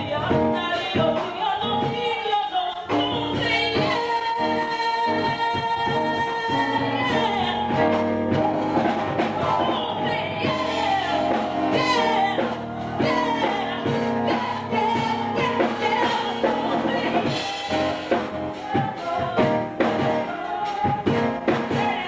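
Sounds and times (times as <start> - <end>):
instrumental accompaniment: 0.0 - 22.0
voices singing: 0.0 - 22.0.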